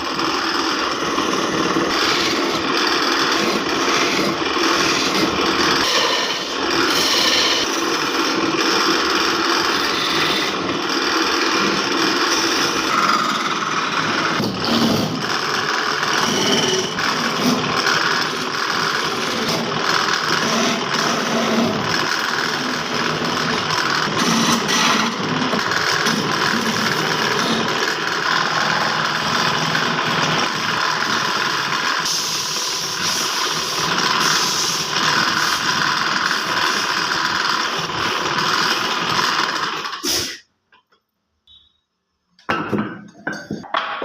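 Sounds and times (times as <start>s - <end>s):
power tool working wood: 0.0s - 40.4s.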